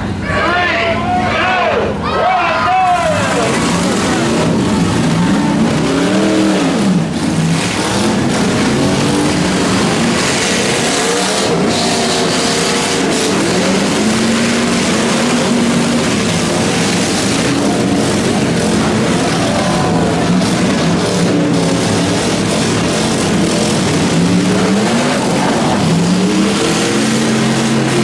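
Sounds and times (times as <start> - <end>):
truck engines revving: 0.0 - 28.0.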